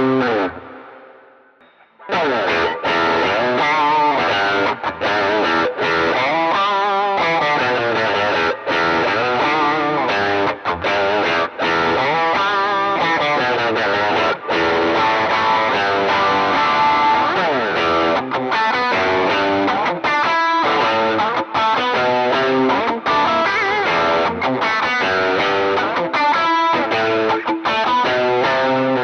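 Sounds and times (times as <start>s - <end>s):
driven electric guitar lead: 0.0s - 29.0s.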